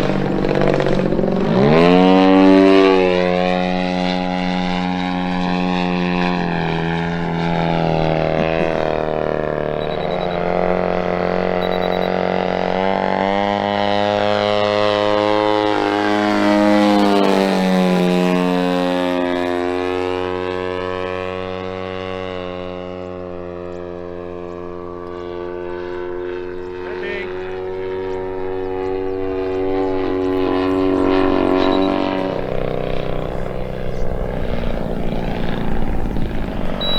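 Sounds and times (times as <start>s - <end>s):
model plane engine droning: 0.0s - 36.9s.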